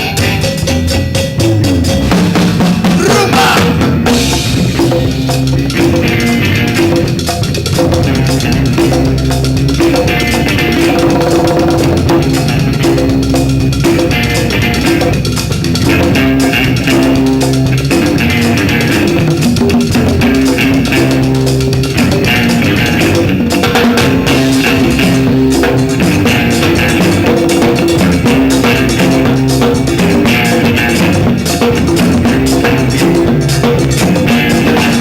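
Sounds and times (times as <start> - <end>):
bass guitar: 0.0 - 35.0
drum kit: 0.0 - 35.0
electric guitar: 0.0 - 35.0.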